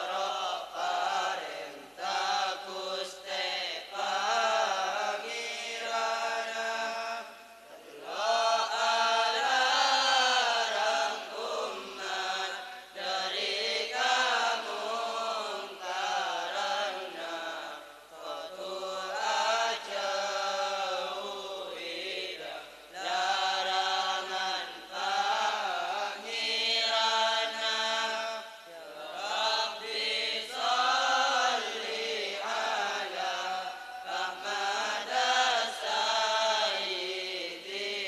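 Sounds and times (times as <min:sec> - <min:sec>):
boys chanting devotional verse: 0:00.0 - 0:38.0.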